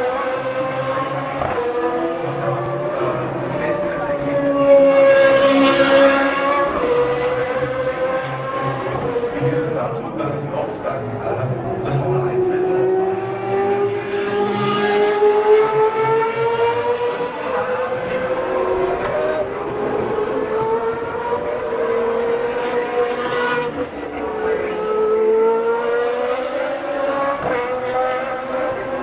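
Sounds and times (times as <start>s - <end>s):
race car engines screaming: 0.0s - 29.0s.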